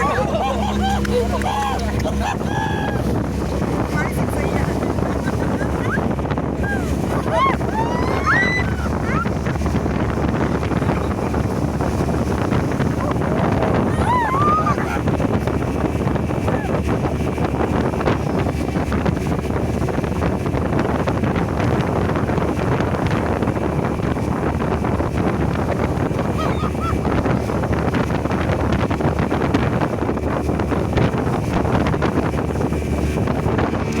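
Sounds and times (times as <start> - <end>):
powerboat engine drone: 0.0 - 34.0
water rushing past hull: 0.0 - 34.0
wind buffeting microphone: 0.0 - 34.0.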